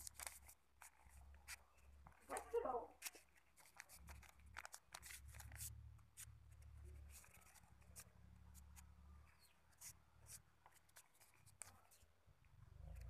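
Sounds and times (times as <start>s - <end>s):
paper crinkling and rustling: 0.0s - 12.1s.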